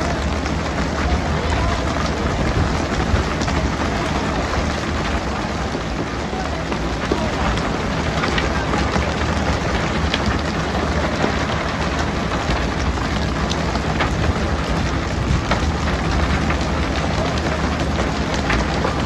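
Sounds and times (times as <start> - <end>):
motorboat engine humming: 0.0 - 19.0
rushing water noise: 0.0 - 19.0.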